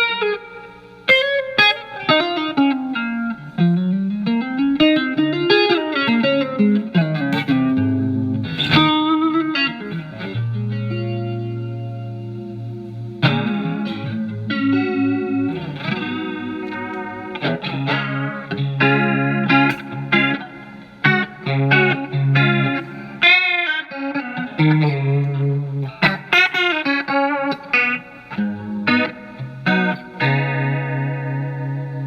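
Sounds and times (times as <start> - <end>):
electric guitar with phaser: 0.0 - 32.0.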